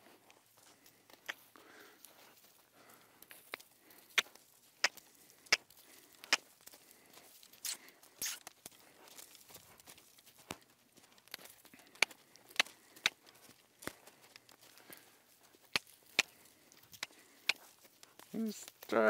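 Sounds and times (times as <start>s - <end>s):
saddle clicks and creaks: 0.0s - 19.0s.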